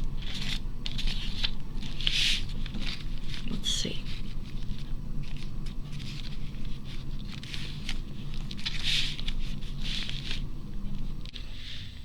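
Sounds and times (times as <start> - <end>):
paper crinkling and shuffling: 0.0 - 12.0
steady low hum: 0.0 - 12.0.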